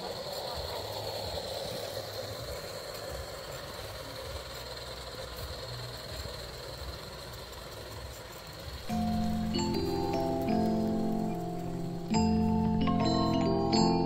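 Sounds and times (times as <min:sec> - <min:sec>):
model steam locomotive running: 0:00.0 - 0:14.0.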